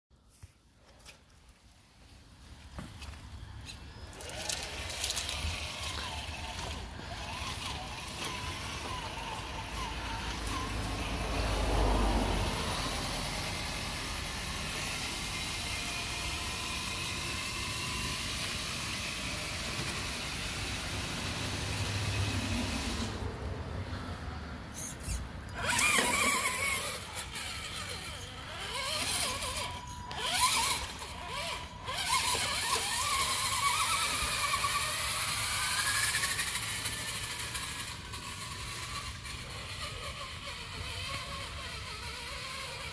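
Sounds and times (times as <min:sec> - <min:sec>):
toy truck electric motor whining: 0:02.8 - 0:42.9.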